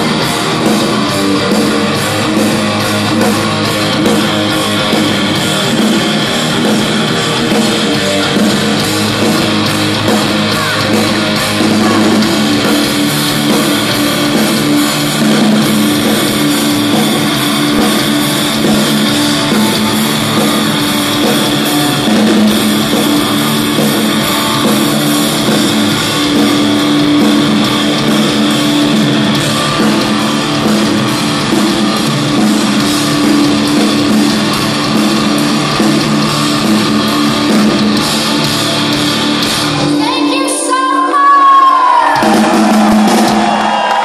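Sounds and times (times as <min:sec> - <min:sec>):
drum kit: 0:00.0 - 0:40.2, 0:41.6 - 0:44.0
electric guitars: 0:00.0 - 0:44.0.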